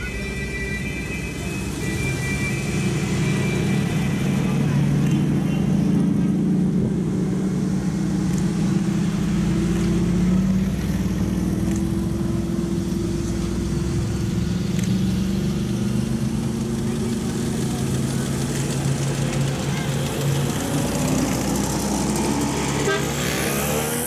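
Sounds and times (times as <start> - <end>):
car engines driving slowly past: 0.0 - 24.0.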